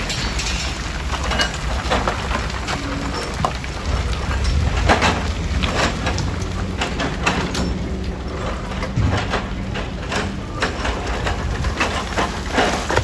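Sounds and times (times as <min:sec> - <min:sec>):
heavy machinery engine humming: 0:00.0 - 0:13.0
knocks and clatter: 0:00.0 - 0:13.0.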